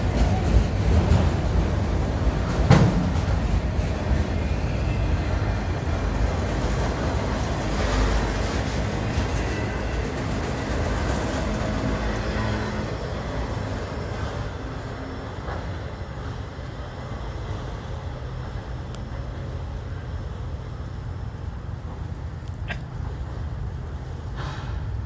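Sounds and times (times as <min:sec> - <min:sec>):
freight cars rumbling past: 0:00.0 - 0:25.0.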